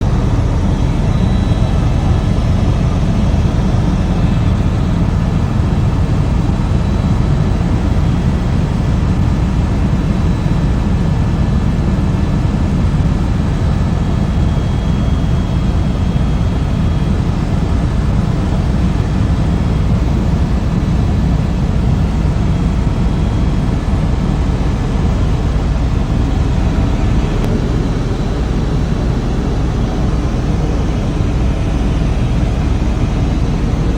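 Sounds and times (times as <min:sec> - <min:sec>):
helicopter rotor and engine drone: 0:00.0 - 0:33.9.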